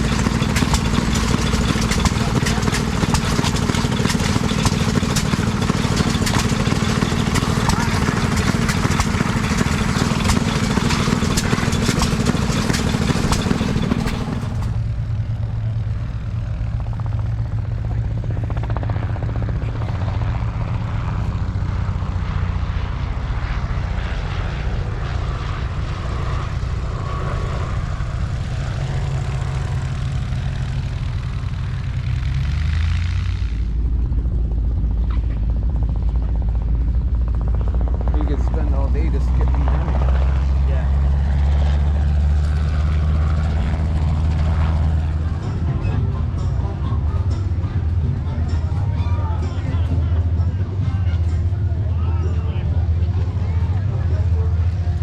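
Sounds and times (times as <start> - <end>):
engines running: 0.0 - 55.0.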